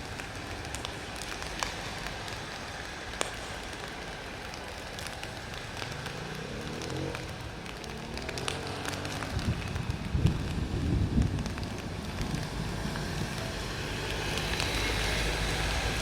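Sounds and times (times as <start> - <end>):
crackles and ticks: 0.0 - 16.0.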